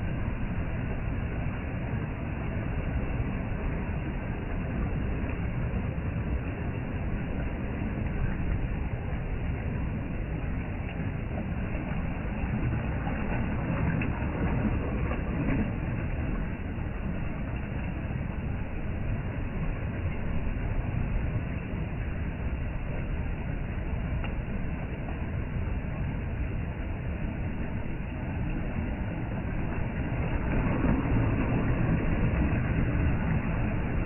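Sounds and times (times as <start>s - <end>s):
sea waves washing: 0.0s - 34.0s.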